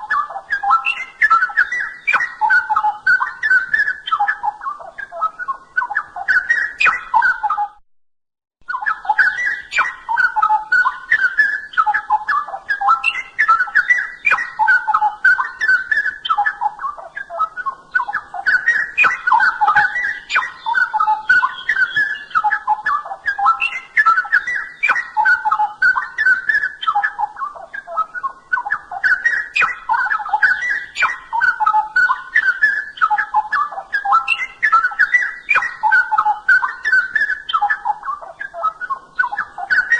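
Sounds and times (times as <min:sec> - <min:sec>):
bird singing warbled phrases: 0:00.0 - 0:07.8, 0:08.6 - 0:39.9.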